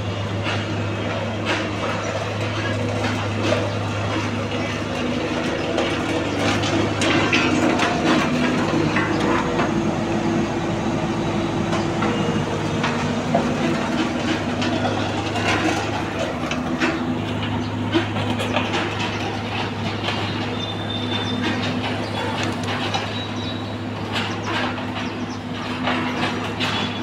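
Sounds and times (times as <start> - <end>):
gravel crunching: 0.0 - 27.0
road roller diesel engine running: 0.0 - 27.0.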